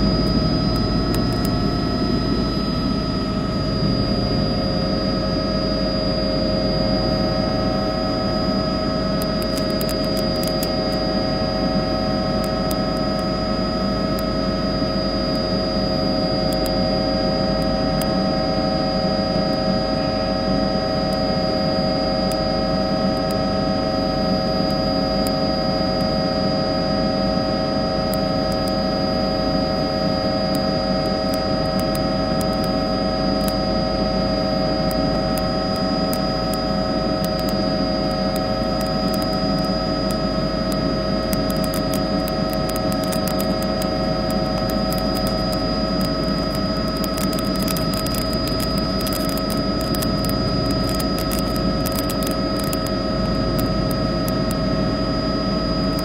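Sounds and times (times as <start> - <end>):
helicopter whine: 0.0 - 56.0.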